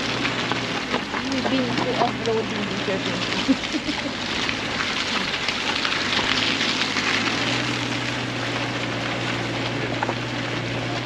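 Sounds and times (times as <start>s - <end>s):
car engine running: 0.0s - 11.0s
tyre and road noise hiss: 0.0s - 11.0s.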